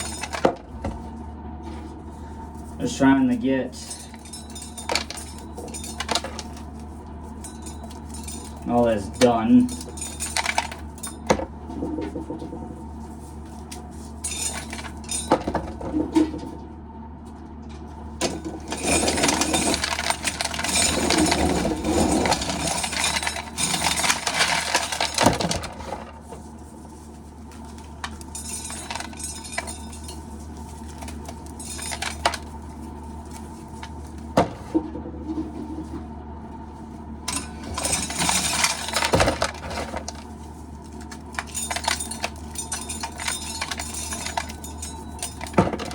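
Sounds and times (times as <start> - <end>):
metallic clinking and rattling: 0.0 - 0.6, 3.7 - 12.3, 13.0 - 16.0, 18.2 - 34.7, 37.2 - 45.9
steady low hum: 0.0 - 45.9.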